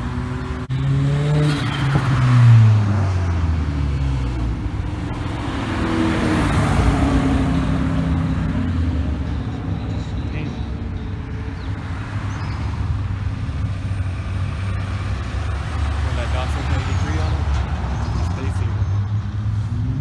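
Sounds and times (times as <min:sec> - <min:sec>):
car engines accelerating past: 0:00.0 - 0:20.0.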